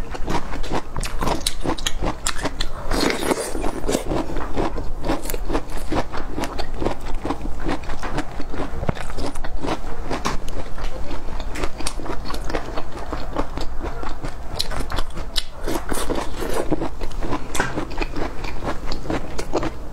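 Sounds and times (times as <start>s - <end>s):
chewing crisp crunches: 0.0s - 19.9s.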